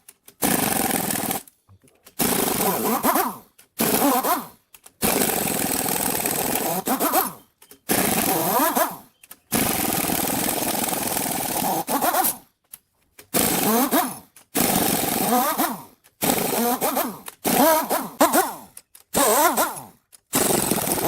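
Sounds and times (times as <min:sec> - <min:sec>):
pneumatic impact wrench bursts: 0:00.2 - 0:01.5, 0:02.2 - 0:12.5, 0:13.3 - 0:21.0.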